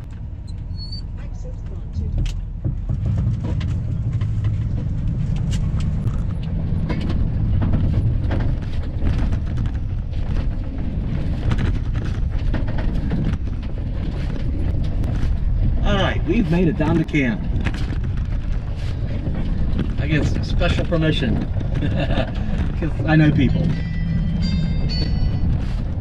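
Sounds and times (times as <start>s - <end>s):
van engine and tyres rumbling: 0.0s - 26.0s
clicks and knocks from rough road: 1.6s - 26.0s.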